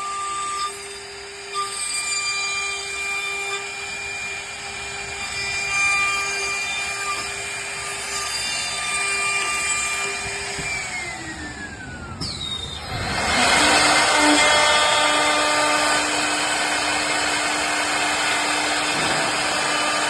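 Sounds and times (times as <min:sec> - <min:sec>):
lathe motor whine: 0:00.0 - 0:20.0
rough wood cutting noise: 0:00.0 - 0:20.0.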